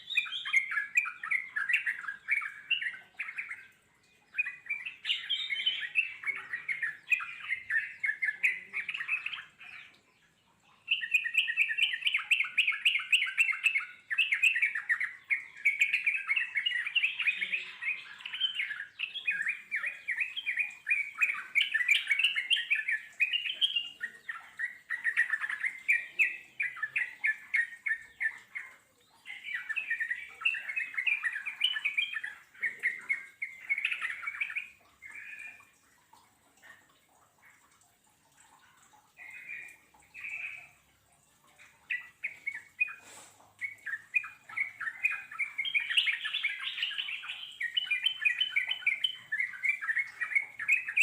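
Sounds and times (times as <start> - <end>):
bird song bubbling chattering: 0.0 - 51.0.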